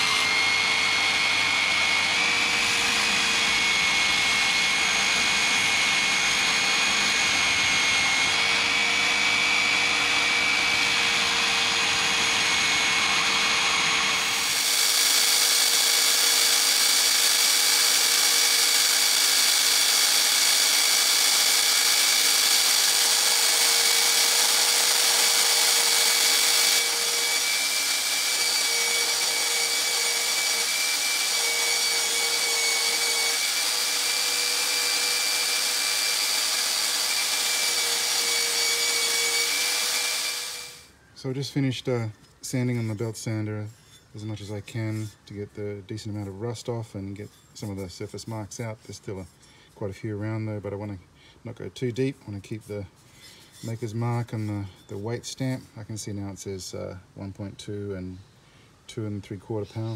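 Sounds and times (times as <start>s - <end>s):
belt sander grinding steel: 0.0s - 50.9s, 52.0s - 55.6s.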